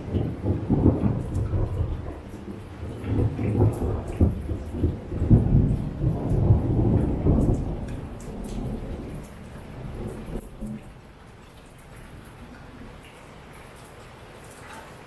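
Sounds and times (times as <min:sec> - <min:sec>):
thunder rumbling: 0:00.0 - 0:13.1
rain hiss: 0:00.0 - 0:15.0
raindrops ticking: 0:00.0 - 0:15.0.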